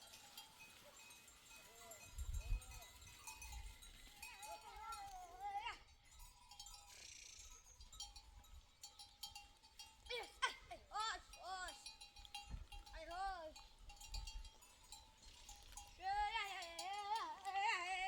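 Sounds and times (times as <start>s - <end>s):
livestock bells clinking: 0.0s - 18.0s.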